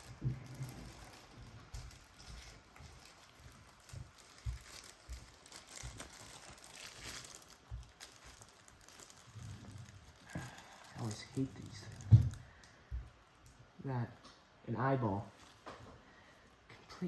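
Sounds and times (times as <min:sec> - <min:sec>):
crinkling and rustling: 0:00.0 - 0:17.0.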